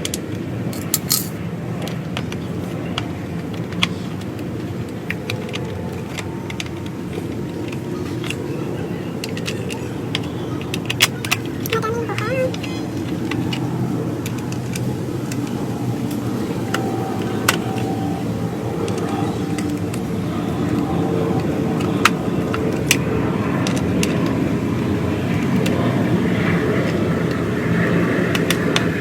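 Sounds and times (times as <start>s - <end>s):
steady mechanical running noise: 0.0s - 29.0s.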